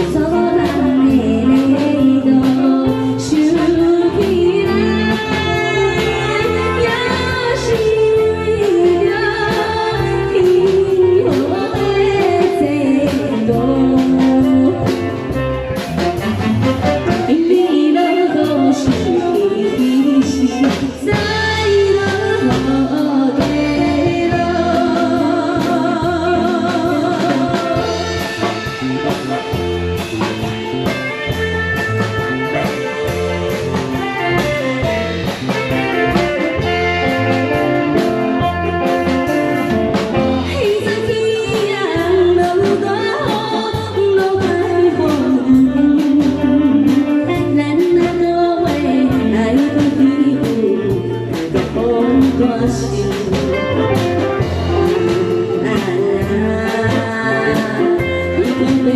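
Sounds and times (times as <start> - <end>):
woman singing with vibrato: 0.0 - 15.5, 16.2 - 29.8, 34.0 - 58.9
instrumental accompaniment with beat: 0.0 - 58.9.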